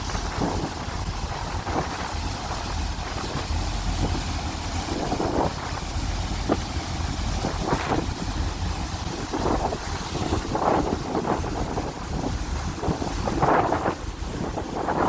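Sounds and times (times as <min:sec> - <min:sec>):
ferry engine rumble: 0:00.0 - 0:15.0
wind buffeting microphone: 0:00.0 - 0:15.0.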